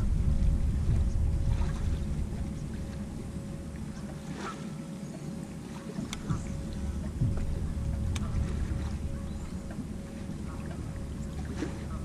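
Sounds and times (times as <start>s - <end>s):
faint steady hum: 0.0s - 12.0s
water lapping: 0.0s - 12.0s
wind: 0.0s - 12.0s.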